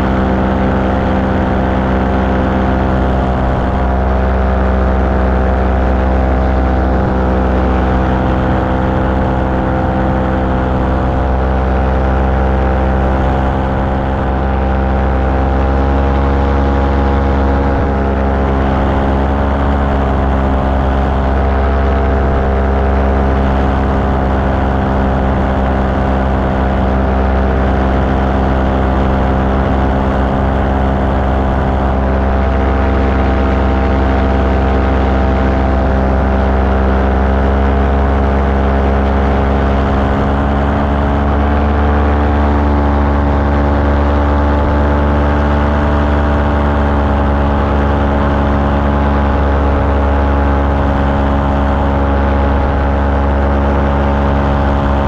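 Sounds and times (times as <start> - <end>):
small aircraft engine in flight: 0.0 - 55.0.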